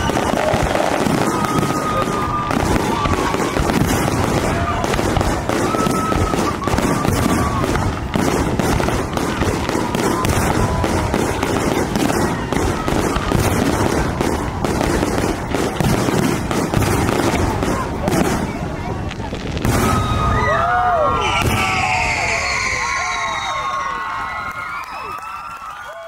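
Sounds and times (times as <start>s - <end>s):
fireworks crackling and booming: 0.0s - 25.6s.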